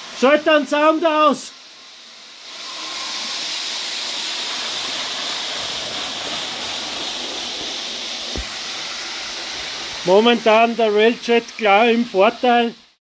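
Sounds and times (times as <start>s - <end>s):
model trains rushing hiss: 0.0s - 13.0s.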